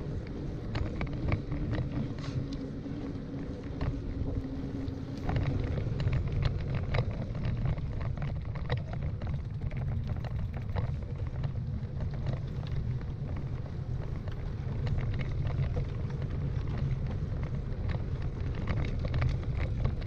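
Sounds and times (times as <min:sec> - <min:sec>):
wheels rolling on wooden boardwalk: 0:00.0 - 0:20.0.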